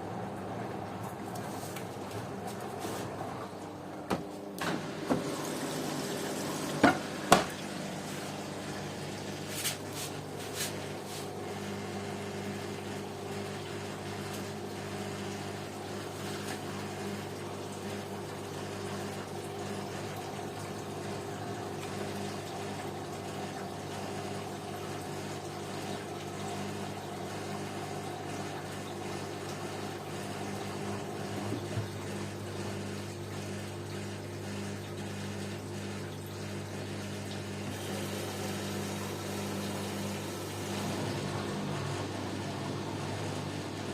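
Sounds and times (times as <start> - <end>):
washing machine pump humming: 0.0 - 43.9
water moving through machine: 0.0 - 43.9.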